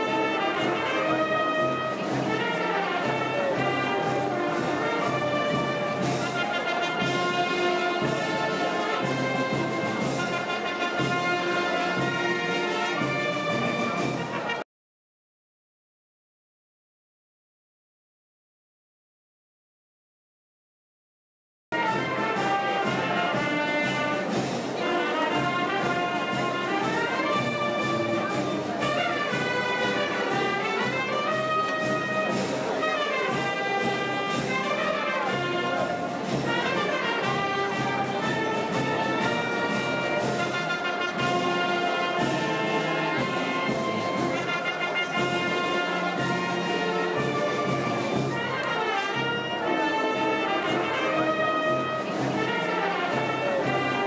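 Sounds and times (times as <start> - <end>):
brass band music: 0.0 - 14.7, 21.7 - 54.0
trumpets and trombones melody: 0.0 - 14.7, 21.7 - 54.0.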